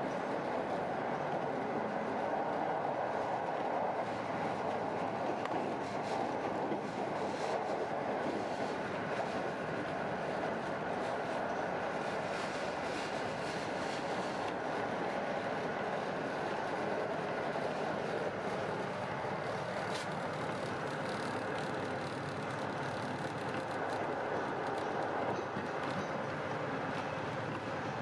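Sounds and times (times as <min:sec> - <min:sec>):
train running noise inside carriage: 0:00.0 - 0:28.0.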